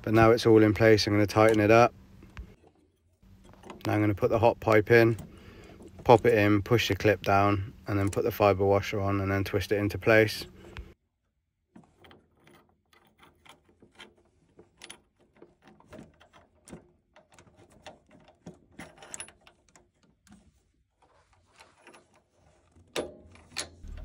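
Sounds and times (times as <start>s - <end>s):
small metallic clicks and scrapes: 0.7s - 8.5s, 11.7s - 24.0s.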